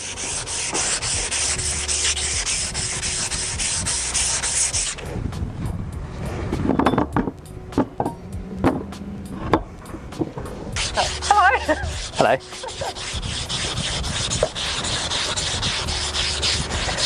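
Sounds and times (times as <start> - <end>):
emery tape scrubbing metal shaft: 0.0 - 5.2, 8.3 - 17.0.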